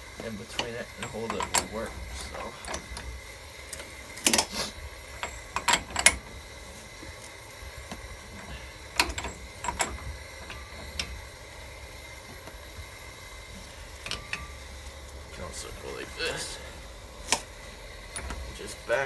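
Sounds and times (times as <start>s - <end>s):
metal tools clanking on wheel hub: 0.0s - 19.0s.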